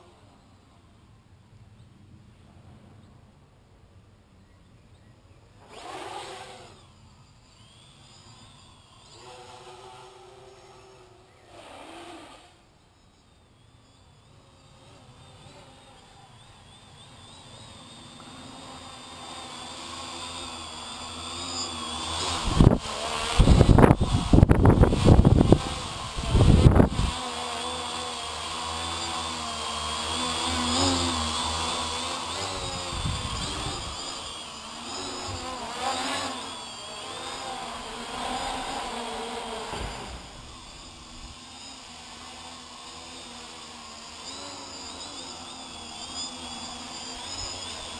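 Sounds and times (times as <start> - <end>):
quadcopter propellers buzzing: 5.0 - 47.9.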